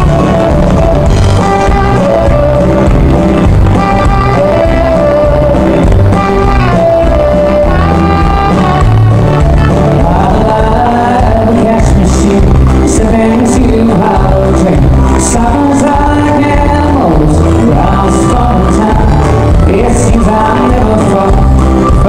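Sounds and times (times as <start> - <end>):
live country band playing: 0.0 - 22.0.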